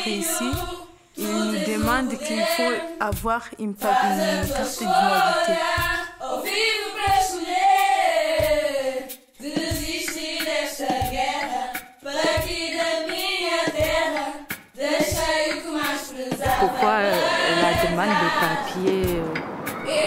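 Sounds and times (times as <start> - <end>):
young voices chanting: 0.0 - 3.1, 3.8 - 20.0
low knocking beat: 0.0 - 6.0, 9.6 - 20.0.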